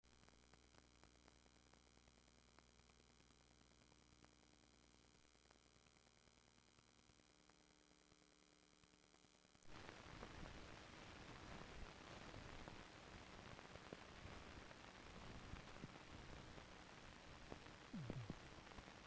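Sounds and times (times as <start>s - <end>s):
crackly hiss: 0.1s - 19.0s
faint recording hum and hiss: 0.1s - 19.0s.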